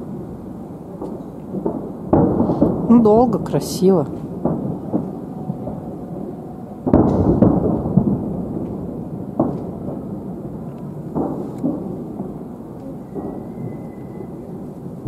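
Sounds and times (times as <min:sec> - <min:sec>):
firework cracks: 0:00.0 - 0:15.0
fireworks booming: 0:00.0 - 0:15.0
loud firework bang: 0:01.0 - 0:02.9, 0:04.1 - 0:15.0.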